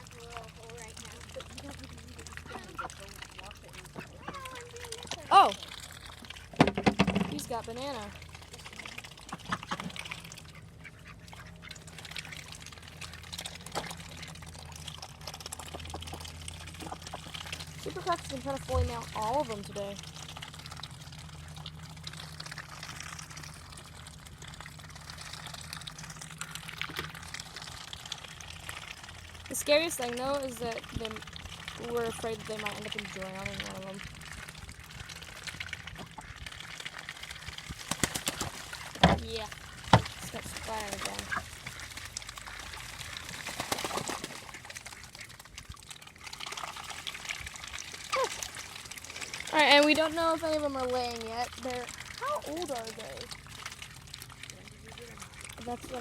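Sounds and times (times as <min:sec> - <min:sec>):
ducks dabbling and splashing: 0:00.0 - 0:56.0
muddy water splashing and trickling: 0:00.0 - 0:56.0.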